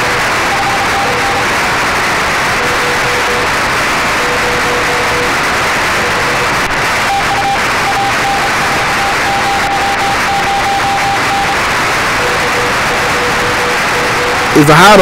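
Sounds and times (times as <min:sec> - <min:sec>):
morse code tones: 0:00.0 - 0:15.0
radio band noise hiss: 0:00.0 - 0:15.0.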